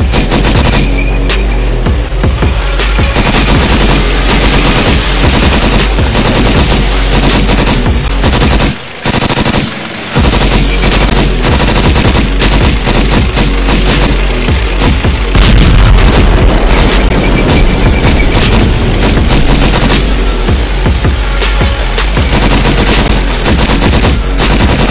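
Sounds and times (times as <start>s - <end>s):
tank engine rumble: 0.0s - 24.9s.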